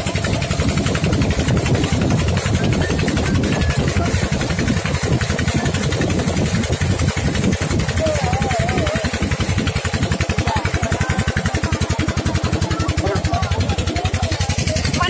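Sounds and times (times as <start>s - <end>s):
boat engine thudding: 0.0s - 15.0s.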